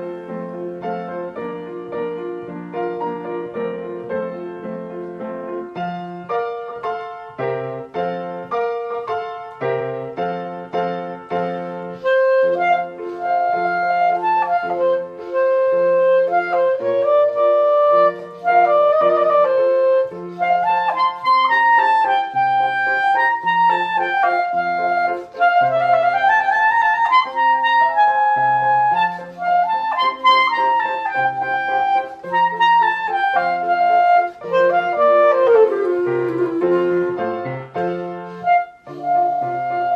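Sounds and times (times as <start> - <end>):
clarinet melody: 0.0 - 39.9
piano chords: 0.0 - 39.9.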